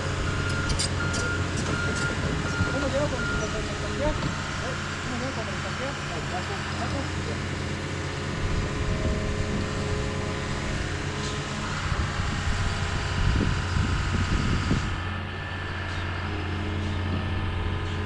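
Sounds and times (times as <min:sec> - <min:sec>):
heavy equipment engine running: 0:00.0 - 0:18.0
machine working noise: 0:00.0 - 0:18.0.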